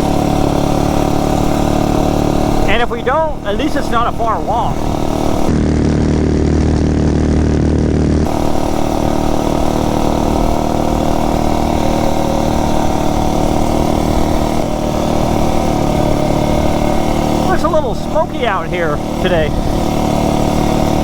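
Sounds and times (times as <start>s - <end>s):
minibike engine running: 0.0s - 21.0s.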